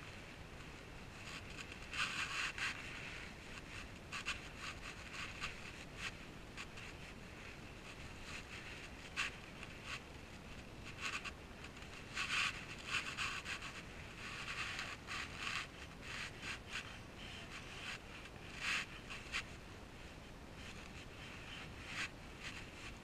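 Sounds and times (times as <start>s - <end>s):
faint steady hiss: 0.0s - 23.0s
rustles and scrapes: 0.0s - 23.0s.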